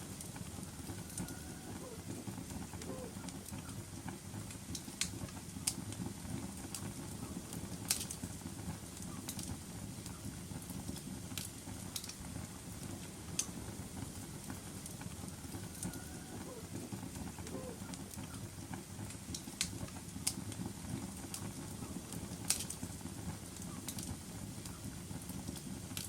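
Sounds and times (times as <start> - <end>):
low noise of burning: 0.0 - 26.0
wood fire sharp pops: 0.0 - 26.0.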